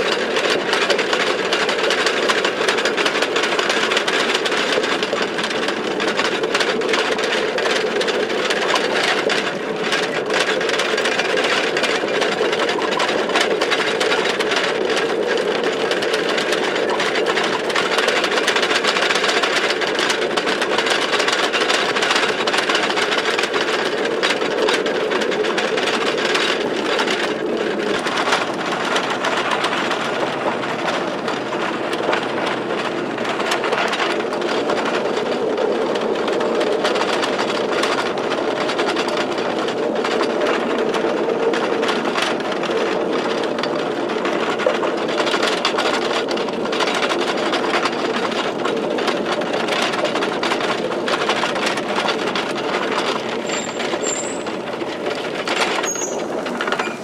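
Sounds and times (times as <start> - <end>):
light clicking clatter: 0.0 - 57.0
trolley train wheels on rail: 0.0 - 57.0.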